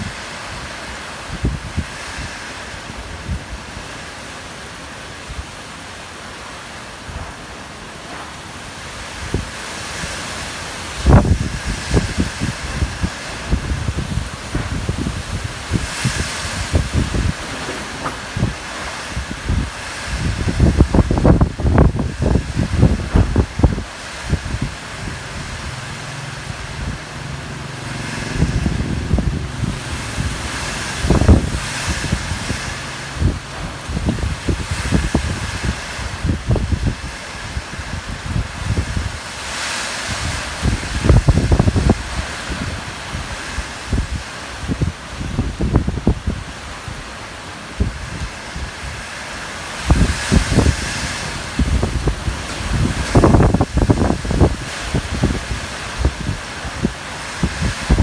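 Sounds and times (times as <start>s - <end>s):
strong wind rushing: 0.0s - 5.6s, 7.0s - 58.0s
wind gusts thumping microphone: 0.0s - 58.0s.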